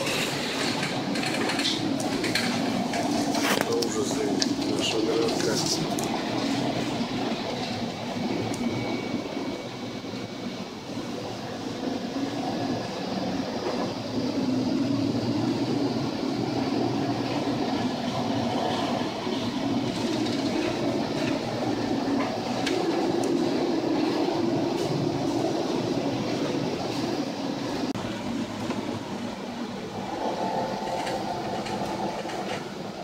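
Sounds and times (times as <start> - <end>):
low rumble of ship: 0.0 - 33.0.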